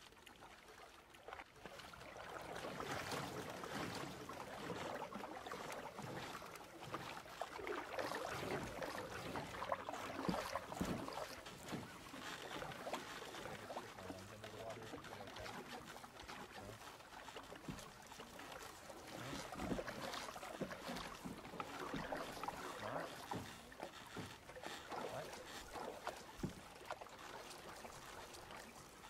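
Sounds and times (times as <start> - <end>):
paddle strokes splashing water: 0.0 - 29.0.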